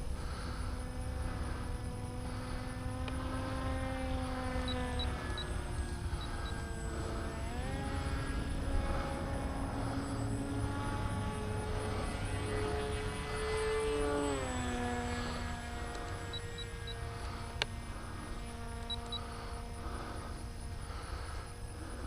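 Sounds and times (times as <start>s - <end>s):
electric motor and propeller whine: 0.0s - 22.0s.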